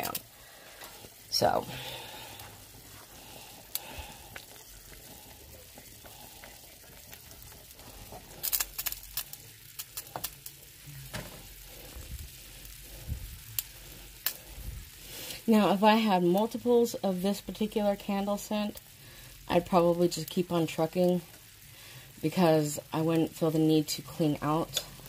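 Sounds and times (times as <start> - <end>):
water boiling and bubbling: 0.0 - 25.0.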